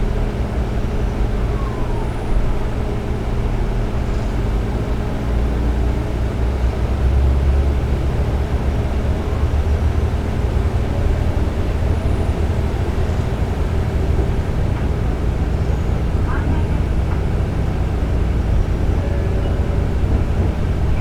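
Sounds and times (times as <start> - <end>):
low diesel engine hum: 0.0 - 21.0
wheels running on track: 0.0 - 21.0.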